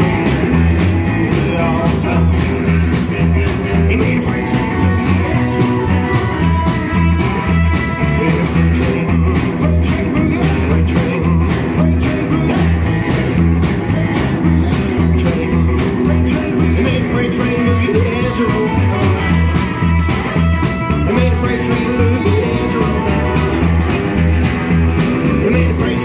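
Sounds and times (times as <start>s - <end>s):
acoustic guitar: 0.0s - 26.0s
drum kit: 0.0s - 26.0s
electric guitar: 0.0s - 26.0s
upright bass: 0.0s - 26.0s.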